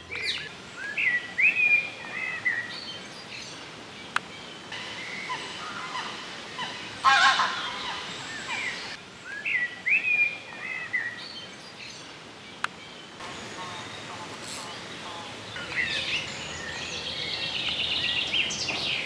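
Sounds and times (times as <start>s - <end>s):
birds singing and chirping: 0.0s - 19.0s
steady outdoor hiss: 0.0s - 19.0s.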